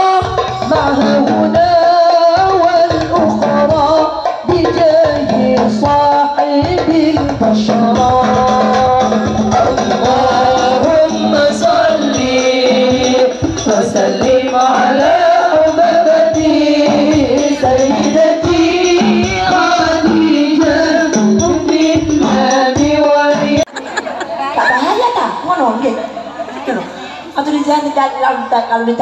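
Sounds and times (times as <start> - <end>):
devotional melody sung: 0.0 - 24.5
steady percussion: 0.0 - 27.5.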